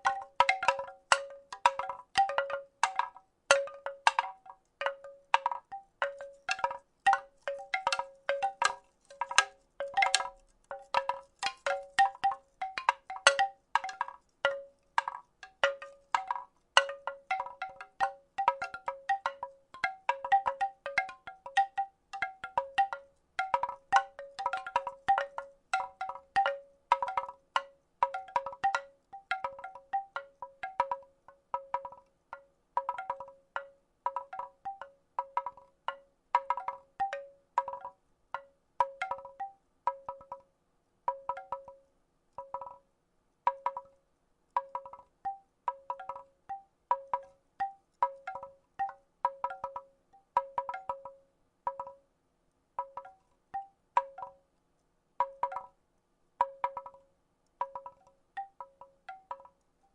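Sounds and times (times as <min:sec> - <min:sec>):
wooden rattle shaken: 0:00.0 - 0:40.4, 0:44.6 - 0:51.1, 0:55.2 - 0:55.7, 0:57.6 - 0:59.6.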